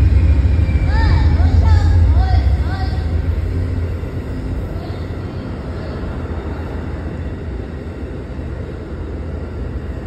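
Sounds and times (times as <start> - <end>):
train rumbling slowly: 0.0 - 10.0.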